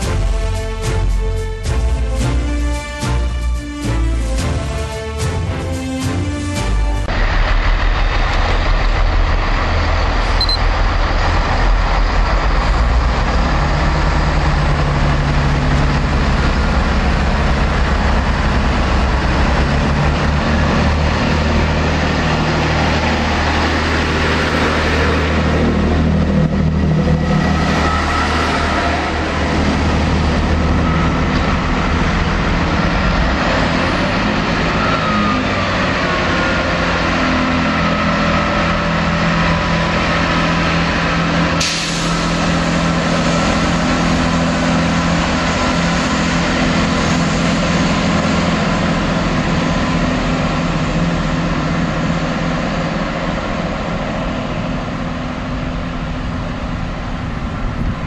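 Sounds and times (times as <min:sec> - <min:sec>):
diesel train engines under power: 0:00.0 - 0:58.0.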